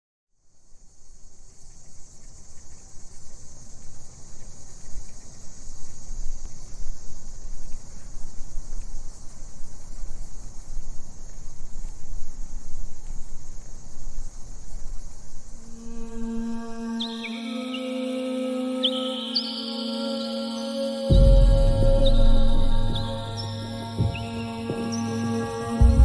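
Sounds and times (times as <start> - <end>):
insects chirring: 0.4 - 26.0.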